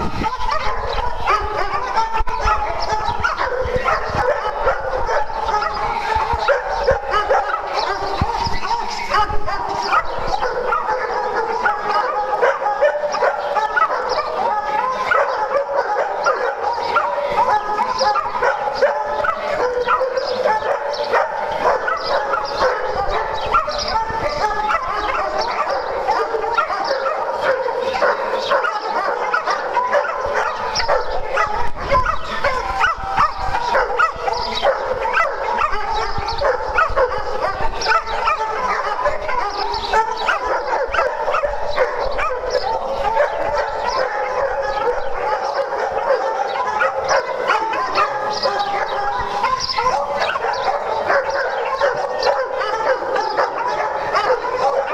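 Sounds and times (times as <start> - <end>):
many dogs barking: 0.0 - 54.9.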